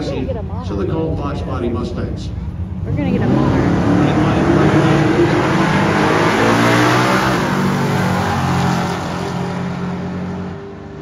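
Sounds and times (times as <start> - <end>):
drag racing engines accelerating: 0.0 - 11.0.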